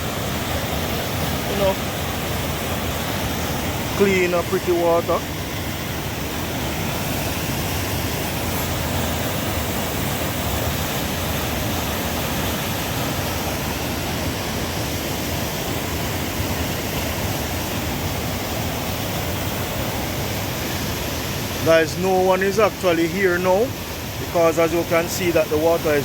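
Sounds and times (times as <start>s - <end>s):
flooded river rushing over rocks: 0.0s - 26.0s.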